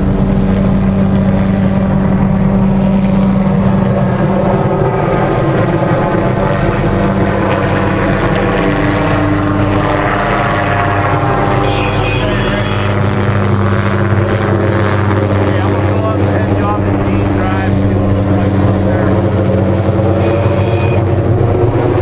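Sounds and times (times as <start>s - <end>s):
helicopter flying overhead: 0.0s - 22.0s.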